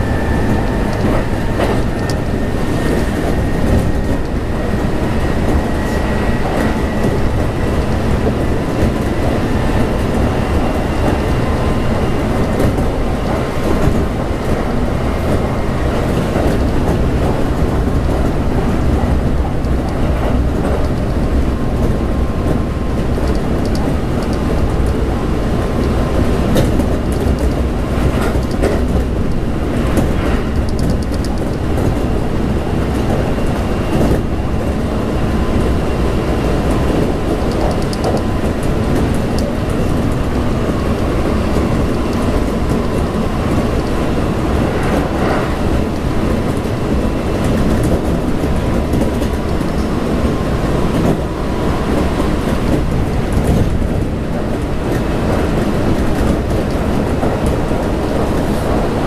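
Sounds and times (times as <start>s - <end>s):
train wheel-on-rail rumble: 0.0s - 59.0s.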